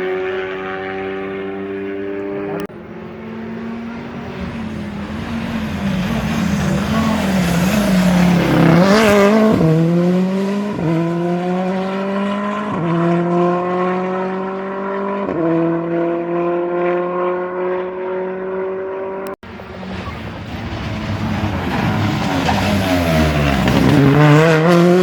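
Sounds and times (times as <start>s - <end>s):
rally car passing and accelerating: 0.0s - 25.0s.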